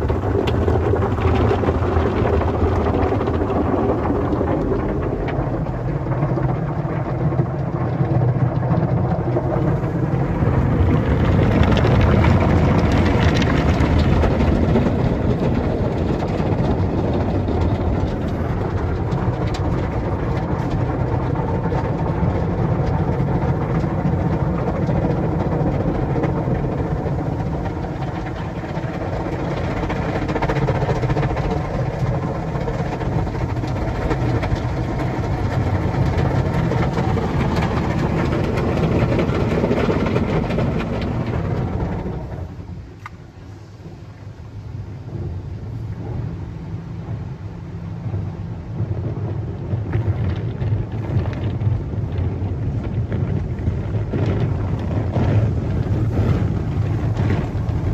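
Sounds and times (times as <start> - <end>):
low rumble: 0.0 - 57.9.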